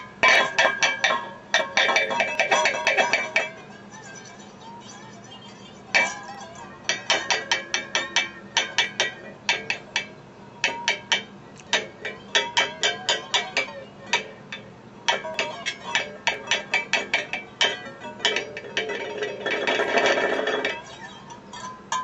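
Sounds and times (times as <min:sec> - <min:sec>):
whisk clinking on metal pot lid: 0:00.2 - 0:22.0.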